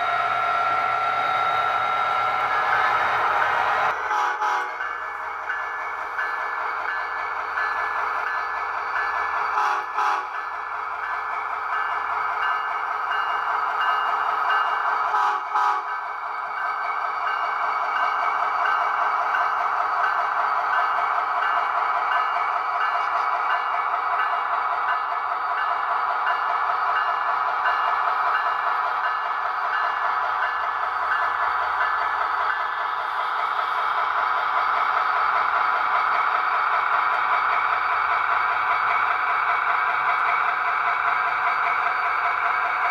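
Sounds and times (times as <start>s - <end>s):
model train diesel engine sound: 0.0s - 42.9s.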